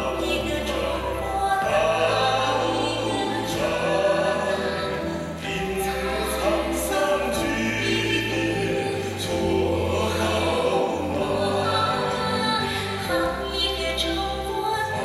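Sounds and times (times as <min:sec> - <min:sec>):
choir singing sustained notes: 0:00.0 - 0:15.0
dance music: 0:00.0 - 0:15.0.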